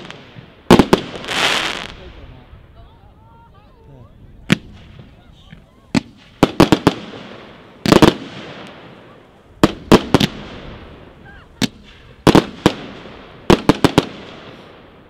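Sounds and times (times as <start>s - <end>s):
fireworks bangs with rolling echo: 0.0s - 2.4s, 4.4s - 5.2s, 5.9s - 15.0s.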